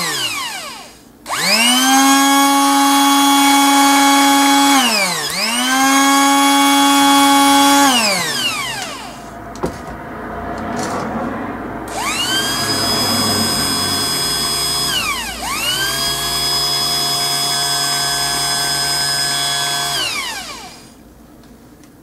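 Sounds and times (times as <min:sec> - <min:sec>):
electric motor whine: 0:00.0 - 0:10.0, 0:11.8 - 0:21.0.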